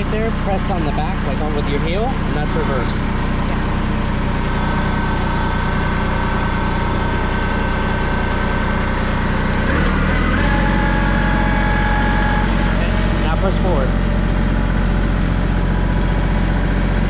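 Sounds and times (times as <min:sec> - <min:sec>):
steady whine: 0:00.0 - 0:17.0
tractor diesel engine running: 0:00.0 - 0:17.0.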